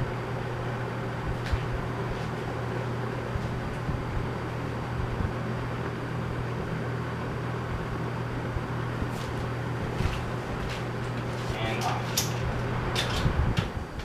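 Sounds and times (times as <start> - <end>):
electric fan motor hum: 0.0 - 14.0
rush of air from fan blades: 0.0 - 14.0.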